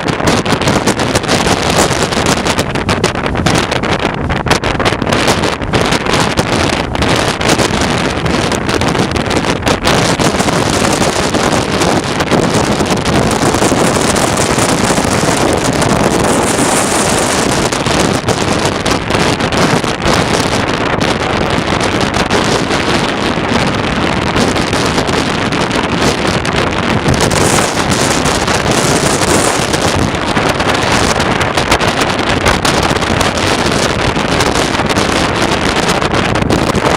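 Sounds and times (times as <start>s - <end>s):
strong wind on microphone: 0.0s - 36.9s.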